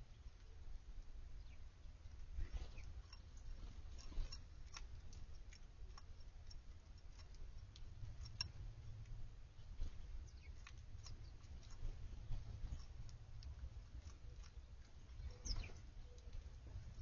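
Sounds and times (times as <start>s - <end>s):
birds pecking and cracking seed: 0.0s - 17.0s
low steady rumble: 0.0s - 17.0s.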